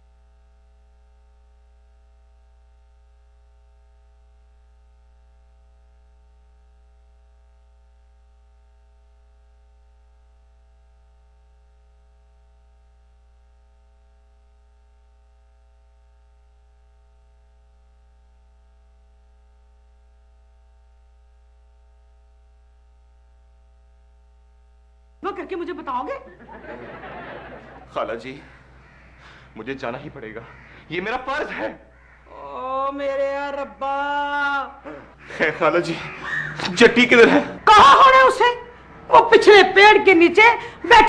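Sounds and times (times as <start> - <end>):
faint buzz: 0.0 - 37.6
low electrical hum: 0.0 - 41.0.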